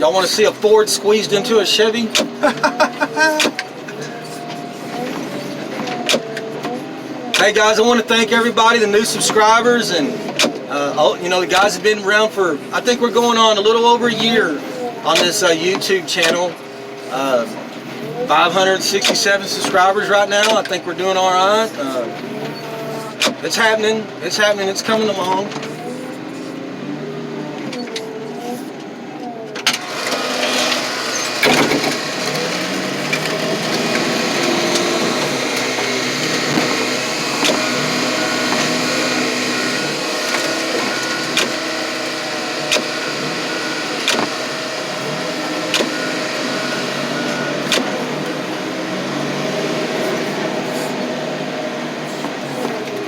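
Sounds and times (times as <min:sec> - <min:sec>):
car crusher engine under load: 0:00.0 - 0:53.0.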